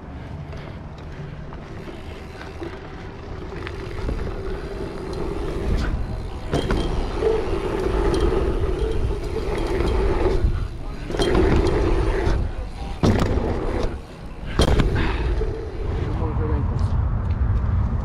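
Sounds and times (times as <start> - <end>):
bike tyres on dirt: 0.0 - 18.0.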